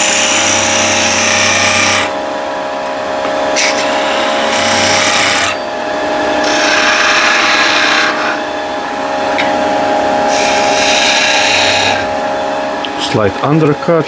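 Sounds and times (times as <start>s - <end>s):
turning tool cutting wood: 0.0s - 2.2s, 2.8s - 14.0s
wood lathe humming: 0.0s - 14.0s.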